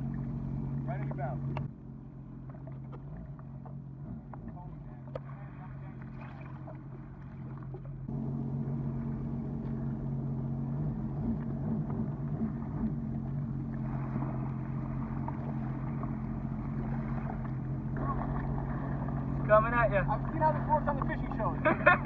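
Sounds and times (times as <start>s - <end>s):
jet ski engine idling: 0.0s - 22.0s
water washing around hull: 0.0s - 22.0s.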